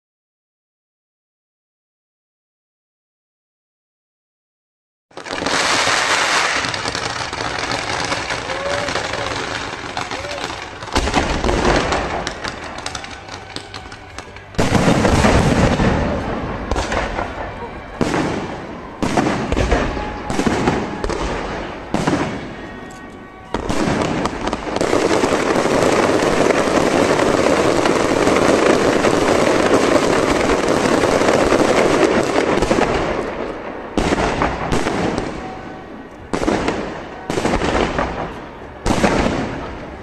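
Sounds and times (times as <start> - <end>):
fireworks bangs: 5.1 - 40.0
fireworks barrage crackling: 5.1 - 40.0.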